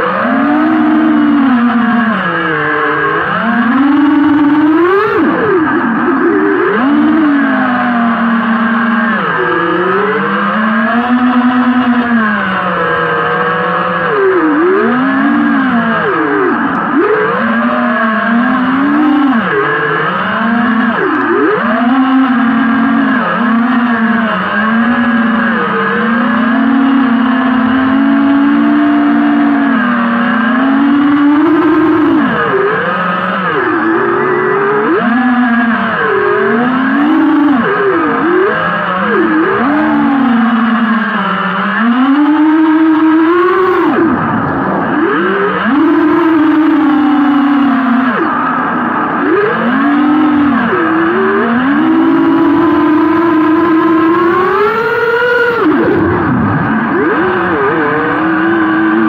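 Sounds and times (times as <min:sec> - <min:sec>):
drone motors and propellers whining: 0:00.0 - 0:59.0.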